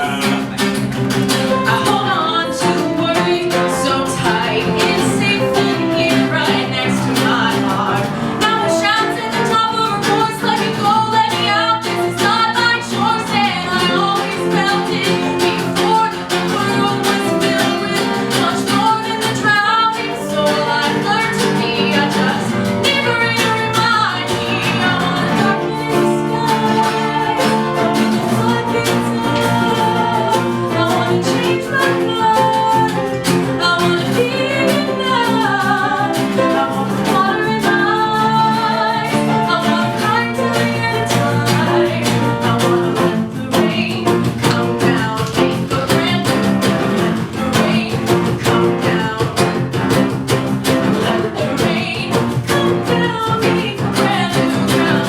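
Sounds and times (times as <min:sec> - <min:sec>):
guitar accompaniment: 0:00.0 - 0:55.0
woman singing pop song: 0:00.0 - 0:55.0.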